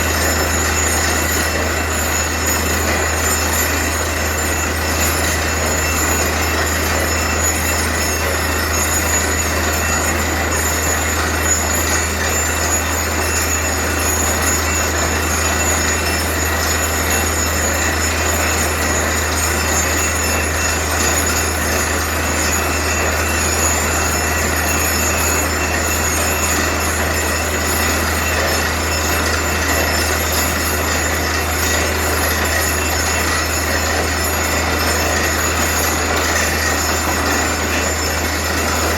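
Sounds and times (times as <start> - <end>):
drilling rig machinery running: 0.0 - 38.9.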